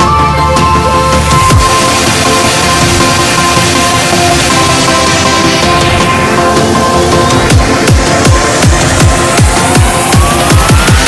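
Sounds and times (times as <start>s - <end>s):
kick-drum bass thumps: 0.0s - 11.0s
rising synth line: 0.0s - 11.0s.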